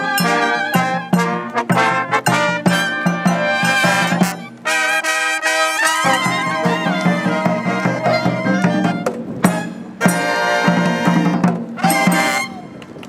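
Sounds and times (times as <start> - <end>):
marching brass band with drums: 0.0 - 13.0.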